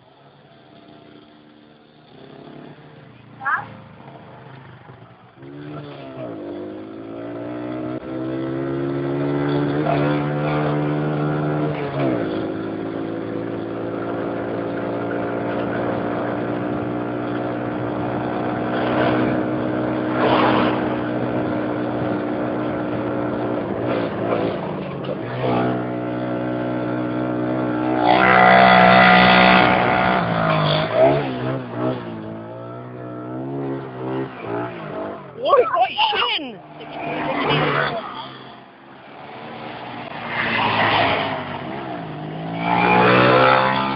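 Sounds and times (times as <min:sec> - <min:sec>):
quad bike engine revving: 0:00.5 - 0:38.6, 0:39.2 - 0:43.9.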